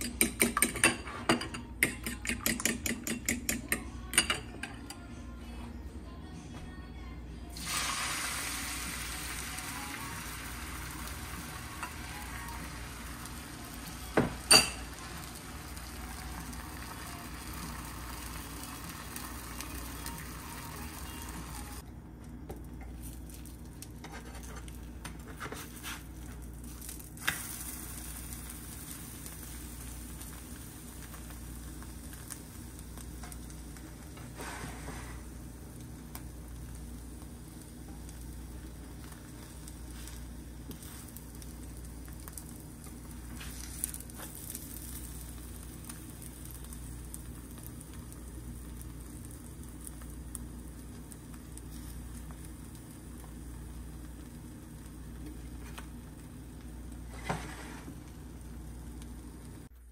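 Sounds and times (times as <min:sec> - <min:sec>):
egg sizzling in a hot pan: 0:07.6 - 0:21.8, 0:22.9 - 0:59.9.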